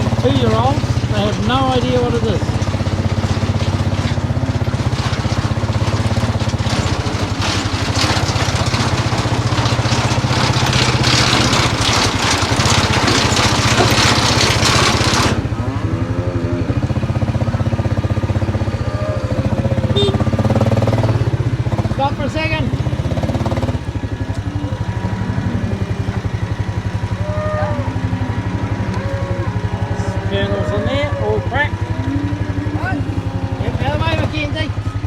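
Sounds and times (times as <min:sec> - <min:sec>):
silage rushing from wagon: 0:00.0 - 0:35.0
tractor engine running: 0:00.0 - 0:35.0.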